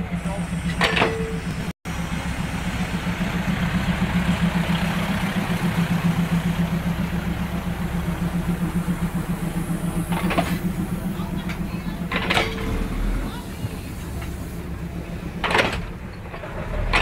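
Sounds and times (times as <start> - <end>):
steady low drone: 0.0 - 17.0
train wheels rumbling: 0.0 - 17.0.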